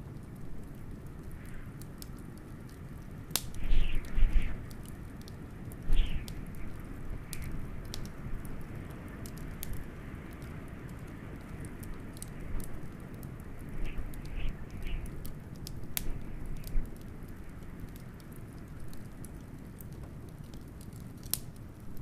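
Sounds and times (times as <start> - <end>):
low wind rumble: 0.0 - 22.0
wood fire crackling: 0.0 - 22.0.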